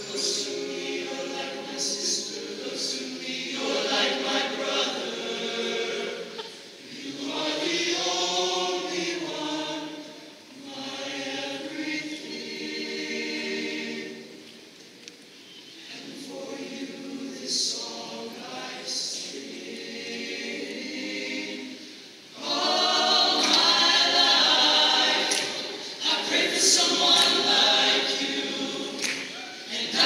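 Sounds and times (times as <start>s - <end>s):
male choir singing: 0.0s - 14.4s, 15.8s - 30.0s.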